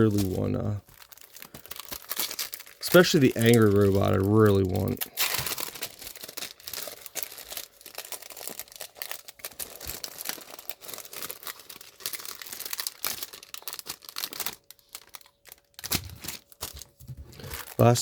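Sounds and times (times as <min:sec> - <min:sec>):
packaging crinkling and tearing: 0:00.0 - 0:18.0.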